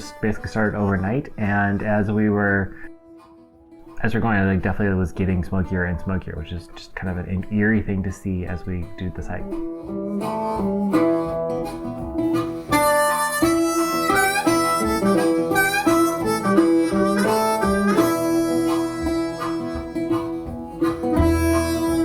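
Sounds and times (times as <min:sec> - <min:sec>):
harmonica melody with bending notes: 0:00.0 - 0:07.8, 0:08.6 - 0:22.0
acoustic guitar: 0:00.0 - 0:22.0.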